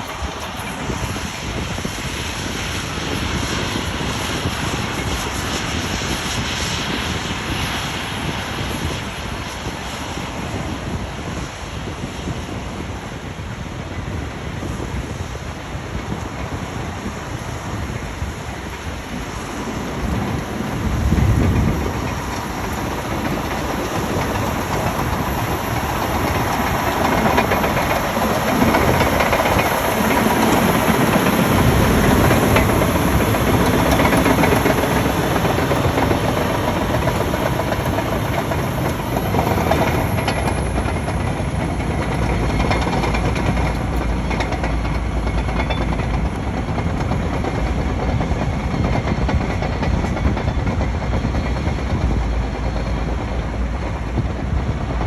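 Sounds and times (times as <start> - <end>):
heavy vehicle rumbling: 0.0 - 5.1, 16.0 - 55.0.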